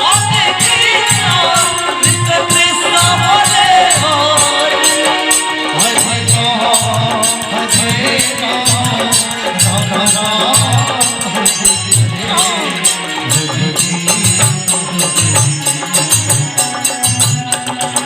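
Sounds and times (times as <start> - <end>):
person singing: 0.0 - 18.0.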